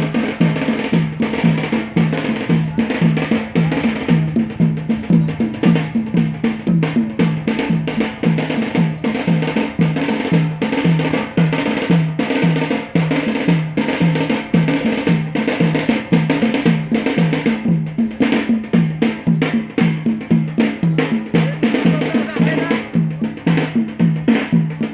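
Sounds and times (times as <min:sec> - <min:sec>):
drums playing dance rhythm: 0:00.0 - 0:24.9.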